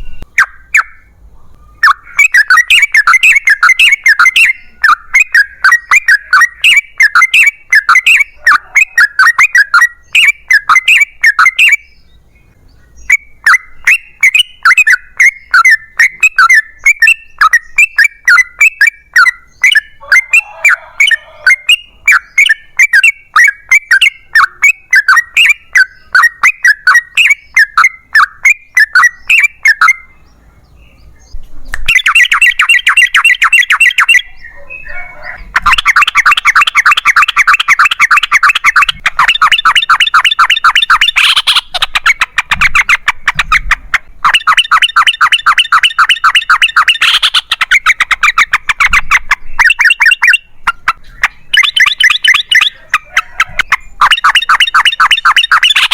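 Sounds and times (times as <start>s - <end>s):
bird chattering song: 0.0s - 55.9s.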